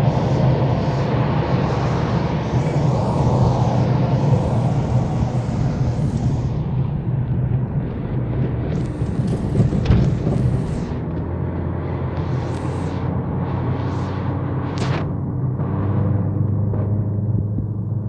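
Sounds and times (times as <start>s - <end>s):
engine and road noise: 0.0s - 18.0s.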